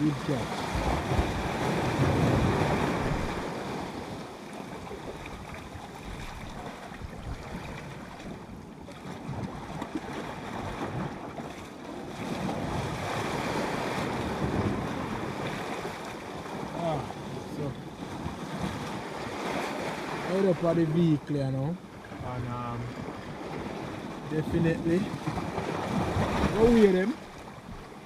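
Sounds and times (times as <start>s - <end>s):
wind buffeting microphone: 0.0s - 20.4s, 22.0s - 28.0s
sea water washing on shore: 0.0s - 28.0s.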